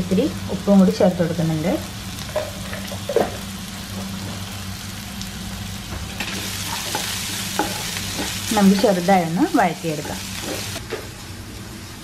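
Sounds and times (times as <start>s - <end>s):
vegetables sizzling in oil: 0.0s - 11.1s.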